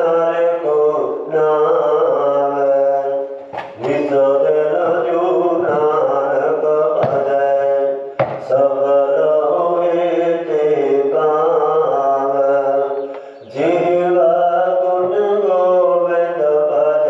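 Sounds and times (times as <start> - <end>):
person chanting scripture: 0.0 - 17.0.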